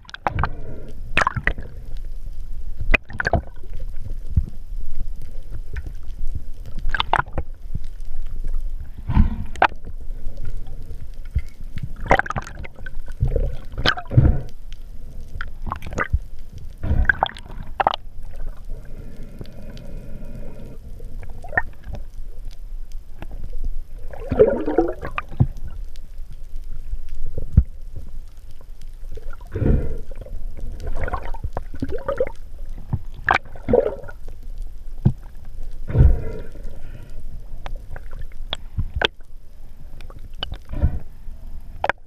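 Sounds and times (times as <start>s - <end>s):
low water rumble: 0.0s - 42.0s
water gurgle: 0.0s - 42.0s.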